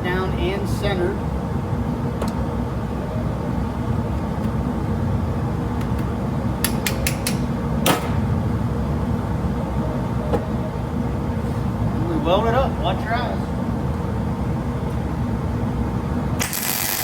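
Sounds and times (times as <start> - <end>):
fume extractor droning: 0.0 - 17.0.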